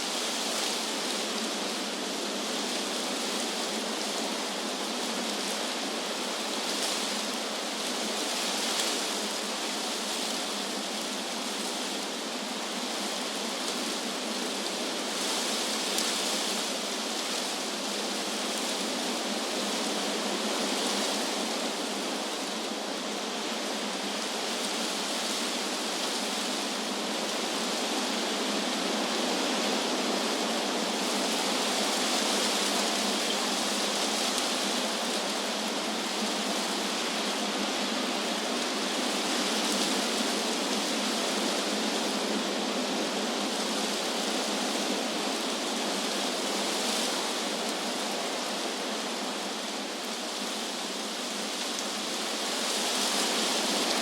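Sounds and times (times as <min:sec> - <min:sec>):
wind through trees: 0:00.0 - 0:54.0.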